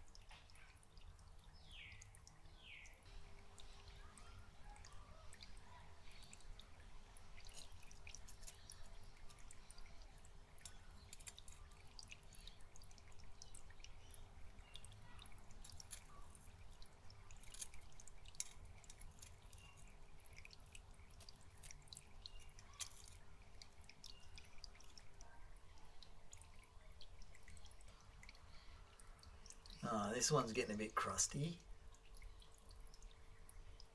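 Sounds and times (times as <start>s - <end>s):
water dripping and trickling: 0.0s - 33.9s.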